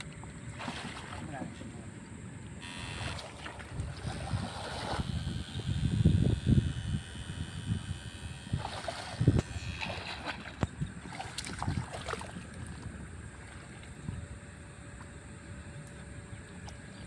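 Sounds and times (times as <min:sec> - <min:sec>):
water sloshing and splashing: 0:00.0 - 0:05.6, 0:08.4 - 0:17.0.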